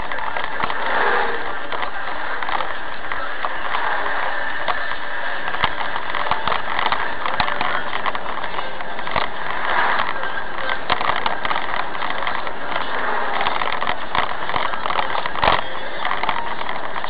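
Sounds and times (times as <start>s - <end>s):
small clicks and rattles: 0.0s - 17.0s
truck engine and tyre noise: 0.0s - 17.0s.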